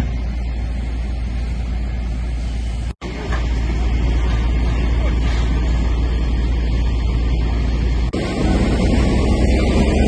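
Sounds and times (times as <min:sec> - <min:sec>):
fire rumble and hiss: 0:00.0 - 0:10.0.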